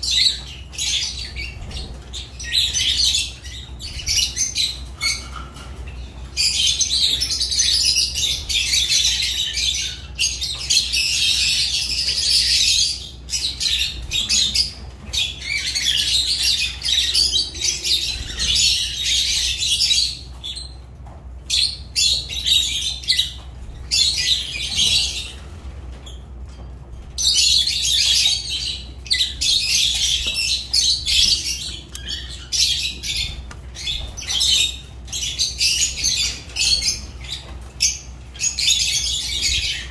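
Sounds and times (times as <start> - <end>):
lovebirds twittering: 0.0 - 39.9.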